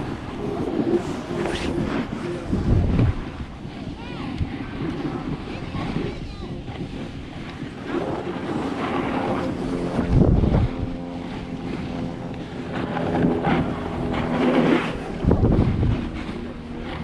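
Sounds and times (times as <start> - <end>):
snowboard scraping over snow: 0.0 - 17.0
wind buffeting microphone: 0.0 - 17.0.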